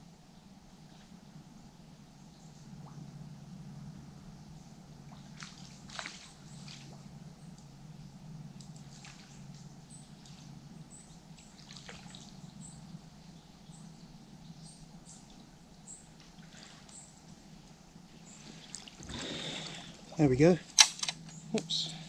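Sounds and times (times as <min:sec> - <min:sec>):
river water trickling: 0:00.1 - 0:22.0.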